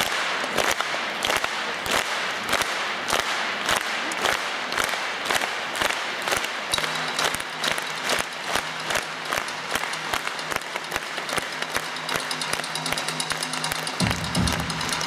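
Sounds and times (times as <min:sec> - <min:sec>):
audience clapping in time: 0:00.0 - 0:15.0.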